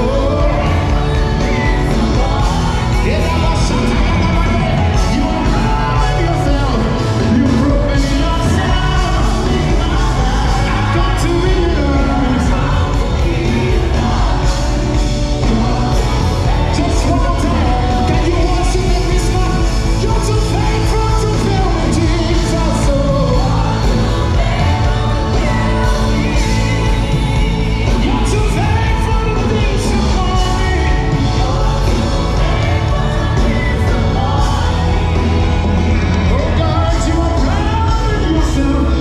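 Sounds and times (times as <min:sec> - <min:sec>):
heavy bass: 0:00.0 - 0:39.0
singers over a band: 0:00.0 - 0:39.0.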